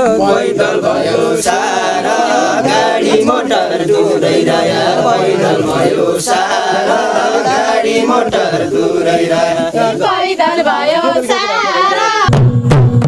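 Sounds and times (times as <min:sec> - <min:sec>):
group singing unaccompanied: 0:00.0 - 0:12.4.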